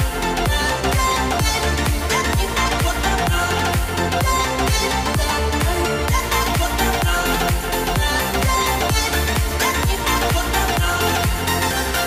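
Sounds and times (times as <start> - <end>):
music with kick-drum beat: 0.0 - 12.0.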